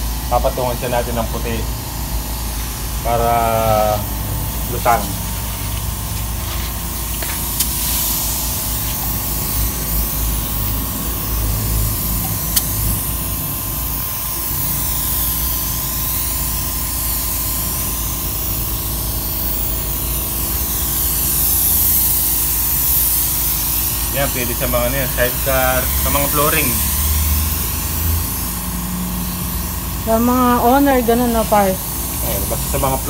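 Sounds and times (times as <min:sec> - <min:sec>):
paint spray gun hissing: 0:00.0 - 0:33.0.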